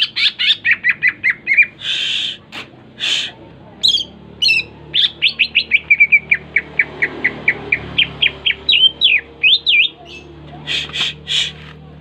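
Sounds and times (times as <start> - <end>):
songbird singing: 0.0 - 11.8.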